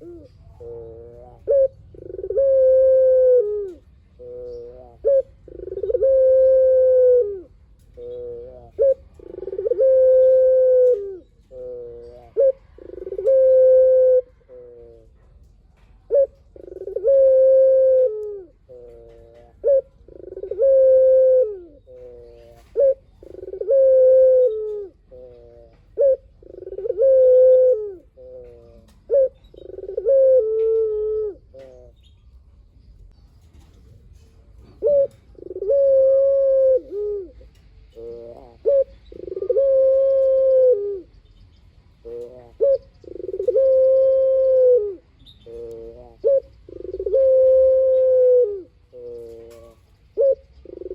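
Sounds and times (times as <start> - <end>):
dove cooing: 0.0 - 32.0, 32.9 - 50.9.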